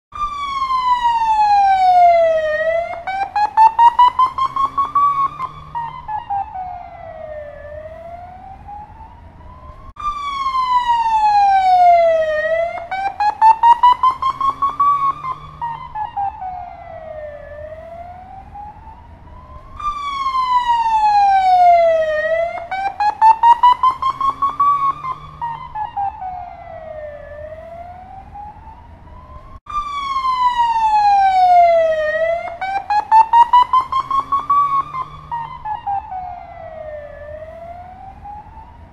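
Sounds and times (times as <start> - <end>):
police siren wailing: 0.1 - 38.9.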